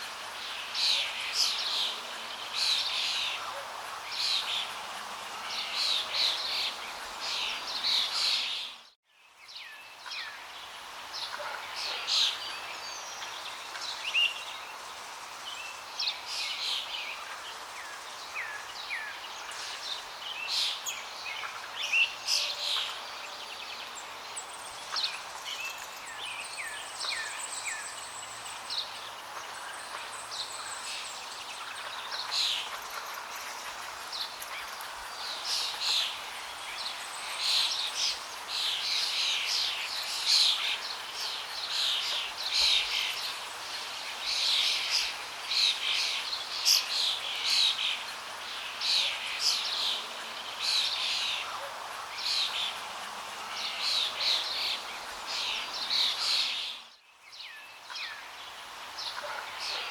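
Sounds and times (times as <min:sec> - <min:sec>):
songbirds chirping: 0:00.2 - 0:59.9.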